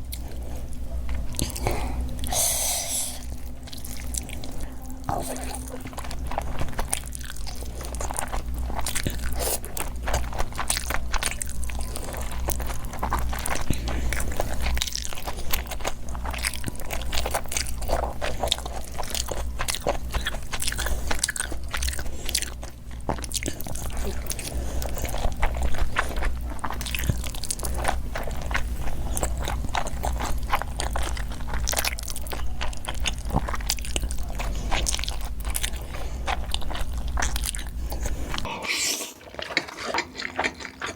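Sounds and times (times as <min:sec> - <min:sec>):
crunchy chewing and biting: 0:00.0 - 0:40.9
low steady hum: 0:00.0 - 0:40.9.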